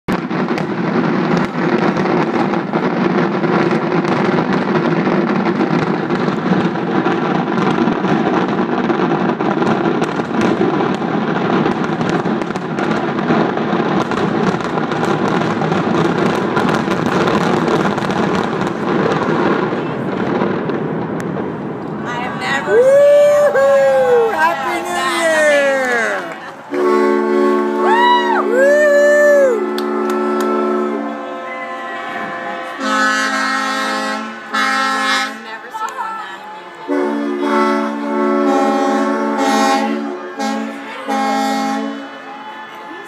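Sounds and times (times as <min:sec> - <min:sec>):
fireworks booming and crackling: 0:00.1 - 0:43.0.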